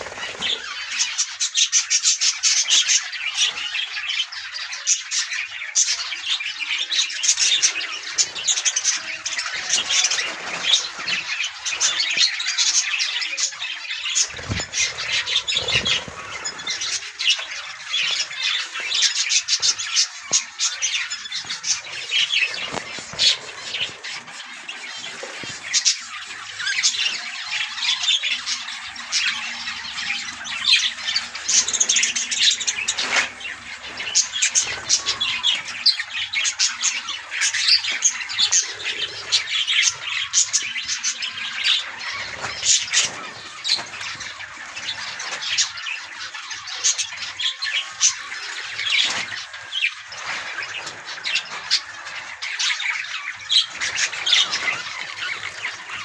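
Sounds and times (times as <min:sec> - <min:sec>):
budgerigars chattering and squawking: 0:00.0 - 0:56.0.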